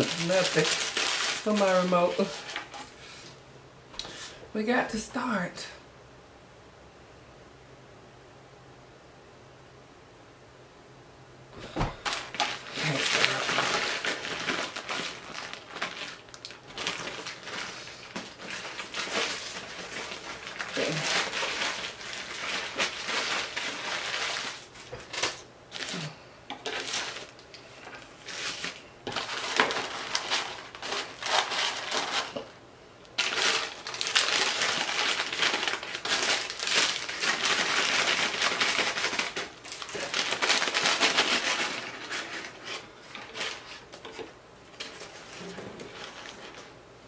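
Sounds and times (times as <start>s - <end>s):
paper wrappers rustling: 0.0s - 3.3s, 11.6s - 46.8s.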